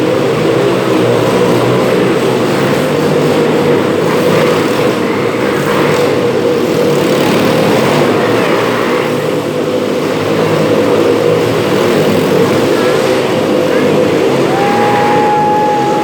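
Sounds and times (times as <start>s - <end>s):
motorcycle engines revving high: 0.0s - 16.0s.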